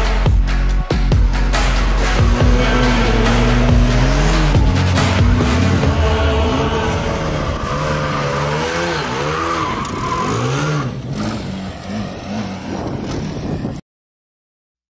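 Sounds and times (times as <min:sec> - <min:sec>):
race car engine revving: 0:01.2 - 0:13.8.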